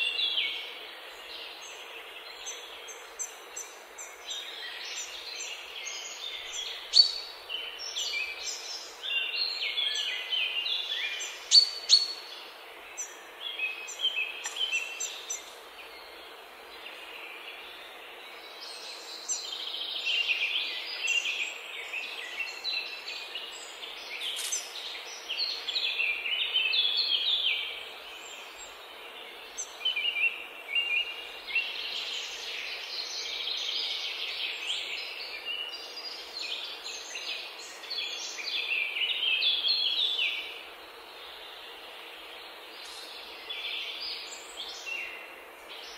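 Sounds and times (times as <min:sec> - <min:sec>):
songbirds chirping and singing: 0:00.0 - 0:45.9.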